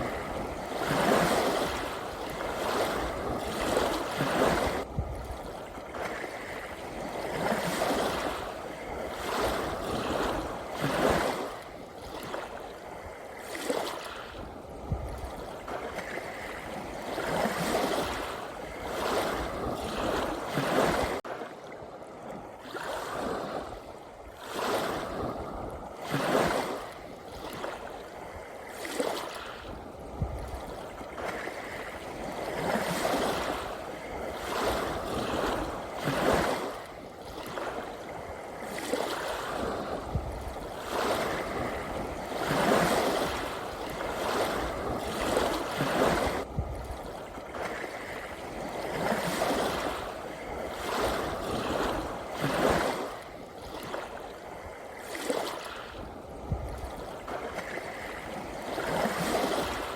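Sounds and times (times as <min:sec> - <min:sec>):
sea waves lapping: 0:00.0 - 0:59.9.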